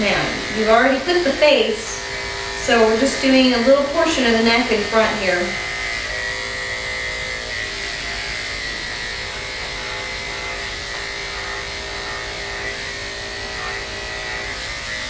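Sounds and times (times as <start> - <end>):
electric clippers humming: 0.0 - 15.0.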